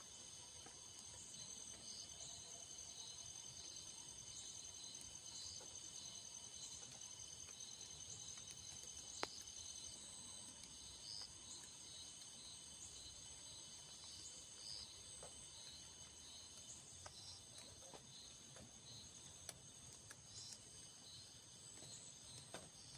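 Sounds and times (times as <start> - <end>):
insects chirring: 0.0 - 22.9.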